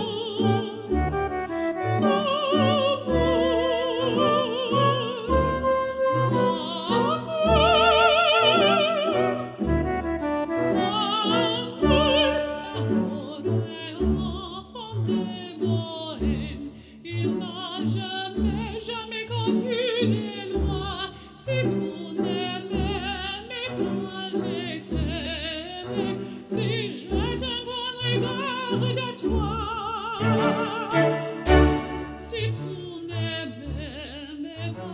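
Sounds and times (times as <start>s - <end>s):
operatic singing with orchestra: 0.0s - 34.9s.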